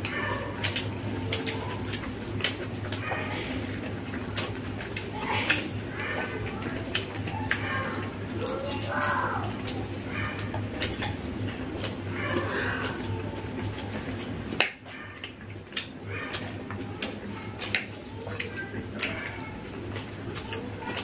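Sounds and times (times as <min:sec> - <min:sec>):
chewing mouth sounds: 0:00.0 - 0:21.0
hands squelching rice: 0:00.0 - 0:21.0.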